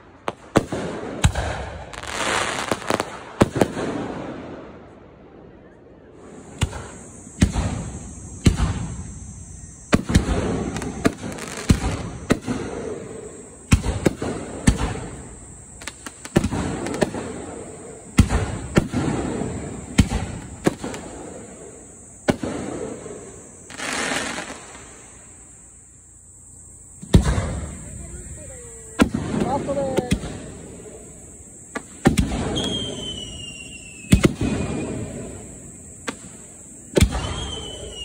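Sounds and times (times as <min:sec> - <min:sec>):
crackling sparks: 0:00.0 - 0:04.1, 0:06.2 - 0:38.0
fireworks bursting: 0:00.0 - 0:05.0, 0:06.2 - 0:38.0.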